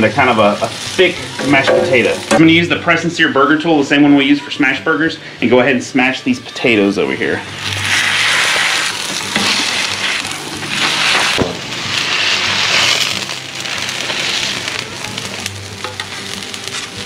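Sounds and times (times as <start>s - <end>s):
potatoes sizzling in oil: 0.0s - 4.8s, 7.2s - 17.0s.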